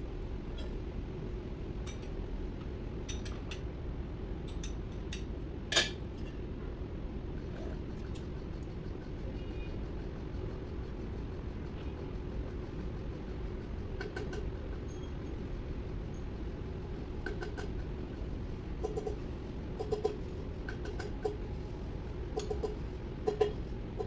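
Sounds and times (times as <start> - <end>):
machine hum and rumble: 0.0 - 24.0.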